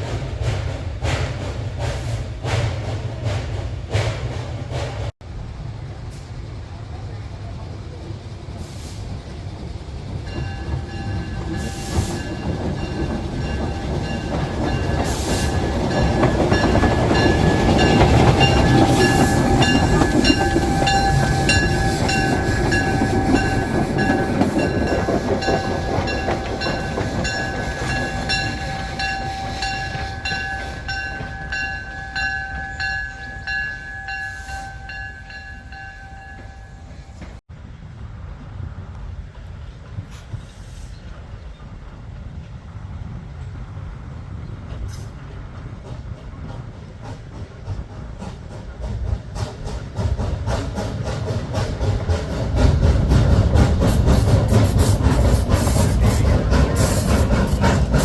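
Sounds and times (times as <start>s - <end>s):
train running past: 0.0s - 58.0s.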